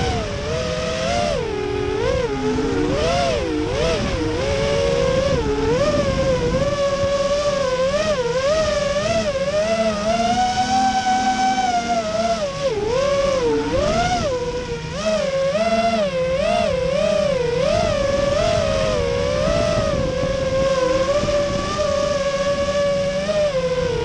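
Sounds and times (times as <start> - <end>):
electric motors and propellers whining: 0.0 - 24.0.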